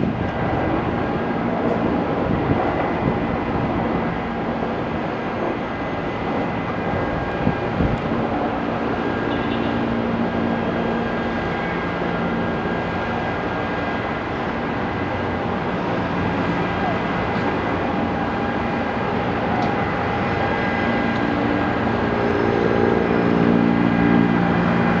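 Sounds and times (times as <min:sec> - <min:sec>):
aircraft engine drone: 0:00.1 - 0:25.0.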